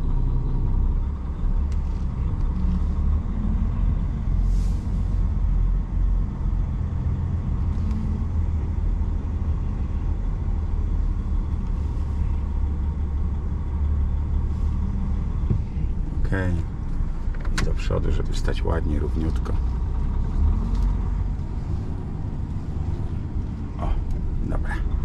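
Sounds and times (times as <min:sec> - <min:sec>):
truck engine low rumble: 0:00.0 - 0:25.0.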